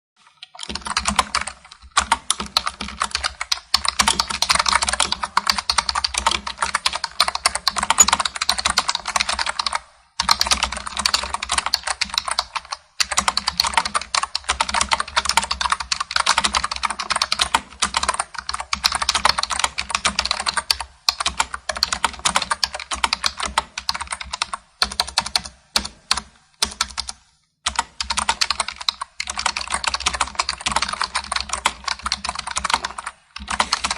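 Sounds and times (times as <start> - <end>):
fast typing on computer keyboard: 0.3 - 33.9.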